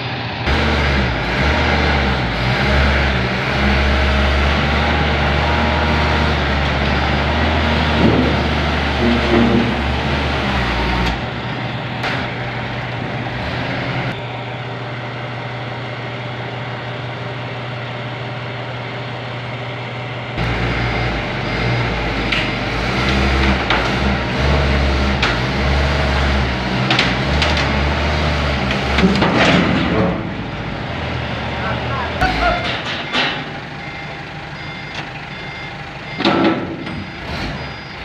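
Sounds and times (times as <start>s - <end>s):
forklift engine running: 0.0s - 38.0s.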